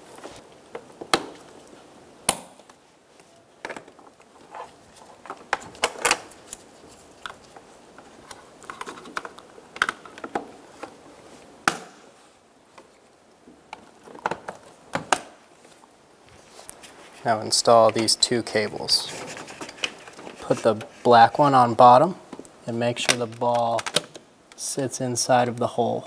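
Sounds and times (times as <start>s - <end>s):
faint handling noise: 2.6s - 25.7s.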